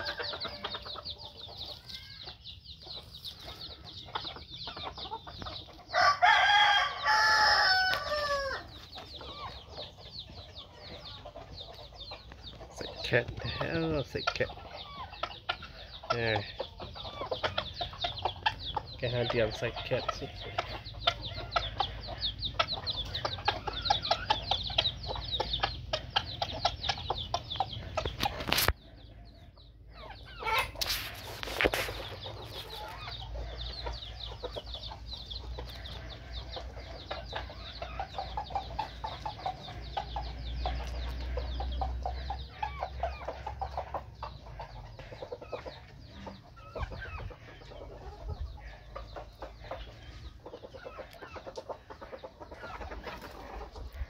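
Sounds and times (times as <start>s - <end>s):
rooster and hen clucking: 0.0s - 54.0s.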